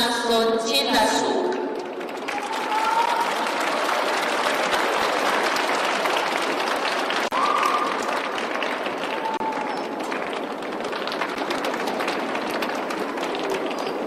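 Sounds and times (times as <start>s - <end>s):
audience applauding: 1.7s - 14.0s.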